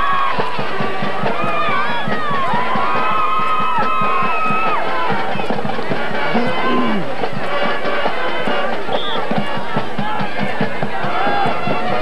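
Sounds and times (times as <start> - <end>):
band music with drum beat: 0.0 - 12.0
football crowd noise: 0.0 - 12.0.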